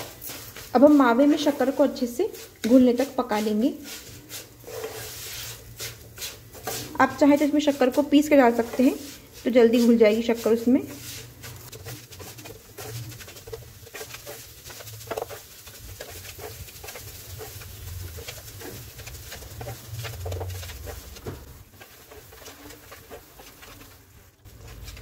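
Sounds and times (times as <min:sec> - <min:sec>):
wooden spatula scraping a pan: 0:00.0 - 0:25.0.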